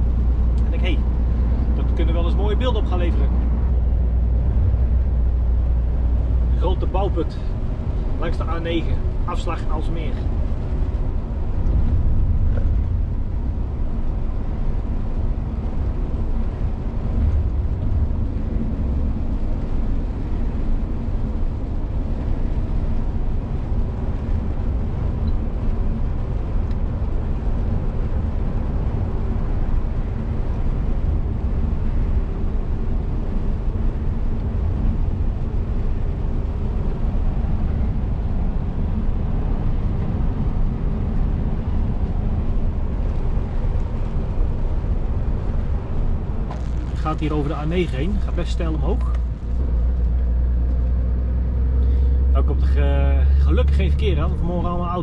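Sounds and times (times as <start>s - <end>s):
diesel engine drone: 0.0s - 55.0s
road noise rumble: 0.0s - 55.0s.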